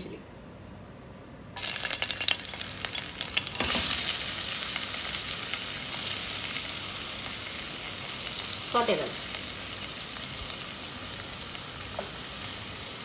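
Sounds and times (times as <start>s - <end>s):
food sizzling in hot oil: 1.6s - 13.0s.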